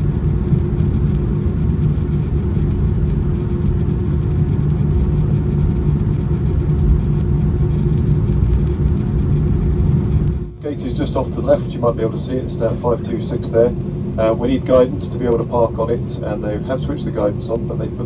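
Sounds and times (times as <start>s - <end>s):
aircraft cabin rumble: 0.0s - 18.0s
constant hum: 0.0s - 18.0s.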